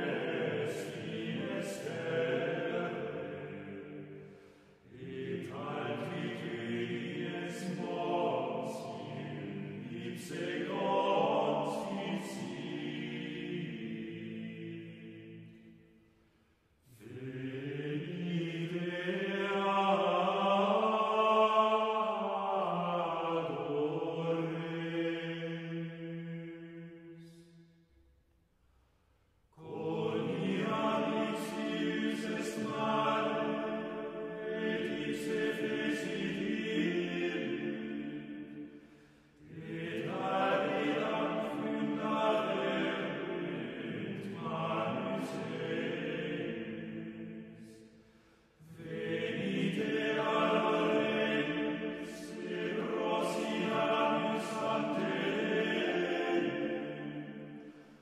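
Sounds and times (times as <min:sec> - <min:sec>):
choir singing slow chant: 0:00.0 - 0:27.9, 0:29.5 - 0:58.0.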